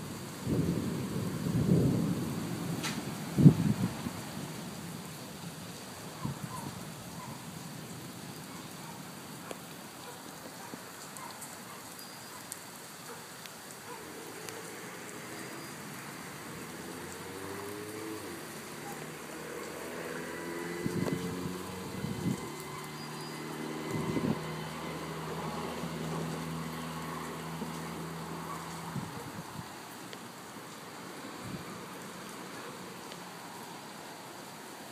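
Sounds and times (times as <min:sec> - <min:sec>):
rain on wet street: 0:00.0 - 0:34.9.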